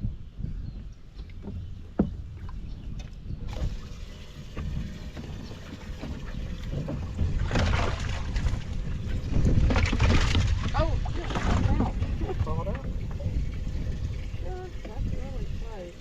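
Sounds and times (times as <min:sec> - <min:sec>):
water lapping against hull: 0:00.0 - 0:16.0
wind on microphone: 0:00.0 - 0:16.0.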